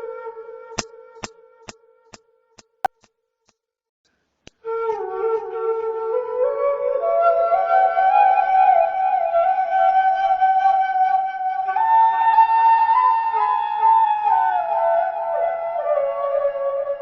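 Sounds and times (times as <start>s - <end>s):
flute melody: 0.0s - 1.8s, 4.5s - 17.0s.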